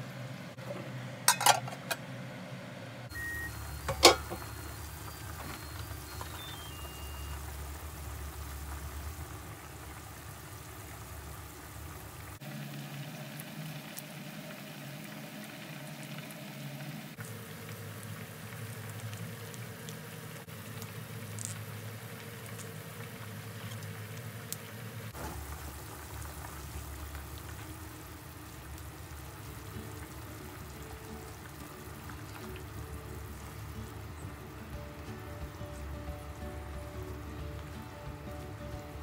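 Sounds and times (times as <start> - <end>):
broth bubbling in a frying pan: 3.1 - 39.0.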